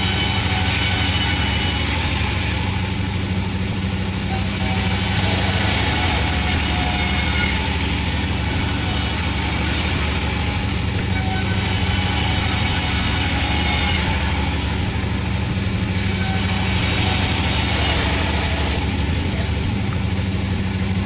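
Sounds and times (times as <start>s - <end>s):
sawmill engine hum: 0.0s - 21.0s.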